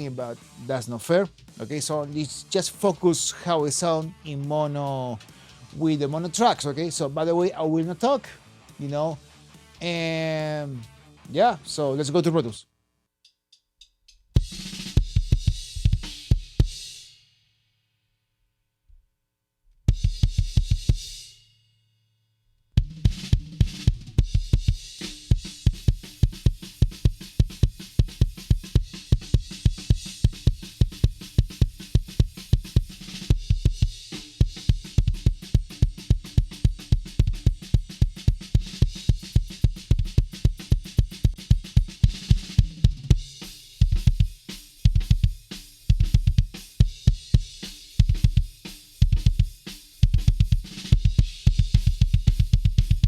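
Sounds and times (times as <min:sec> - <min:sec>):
metal drums playing: 0:00.0 - 0:10.6, 0:14.4 - 0:16.9, 0:19.9 - 0:21.2, 0:22.8 - 0:53.0.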